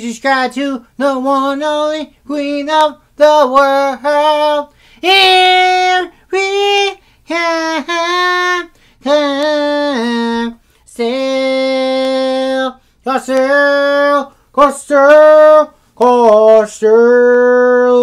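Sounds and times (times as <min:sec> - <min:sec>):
man singing a cappella: 0:00.0 - 0:18.0.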